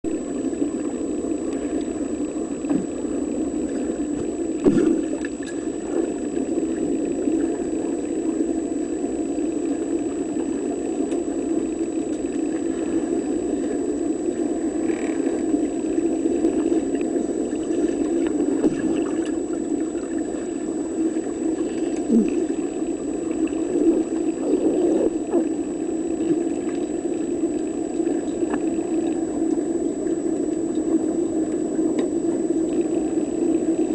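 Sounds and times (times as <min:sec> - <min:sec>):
faint high whine: 0:00.0 - 0:33.9
underwater motor hum: 0:00.0 - 0:33.9.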